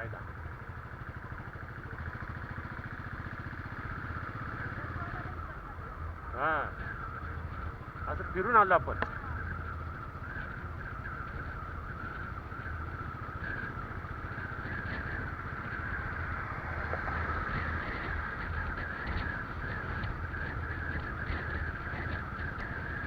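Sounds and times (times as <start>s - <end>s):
motorcycle engine rumble: 0.0s - 23.0s
wind and road noise hiss: 0.0s - 23.0s.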